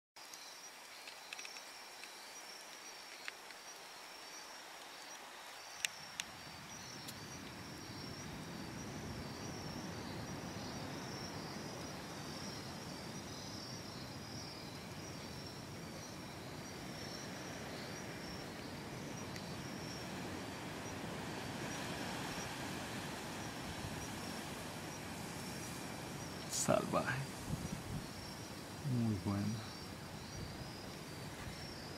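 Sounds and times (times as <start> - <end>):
insects chirping: 0.2 - 31.9.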